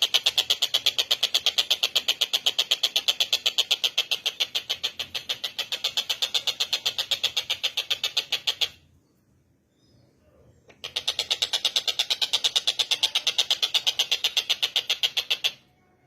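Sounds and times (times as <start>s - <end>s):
kingfisher rattling chatter: 0.0s - 8.8s, 10.7s - 15.7s.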